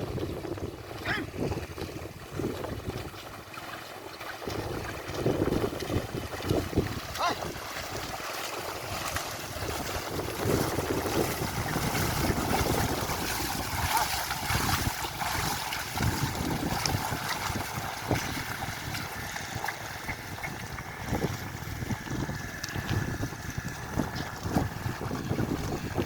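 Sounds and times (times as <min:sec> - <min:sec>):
wind buffeting microphone: 0:00.0 - 0:03.6, 0:04.4 - 0:26.0
mud and water sloshing: 0:00.0 - 0:26.0.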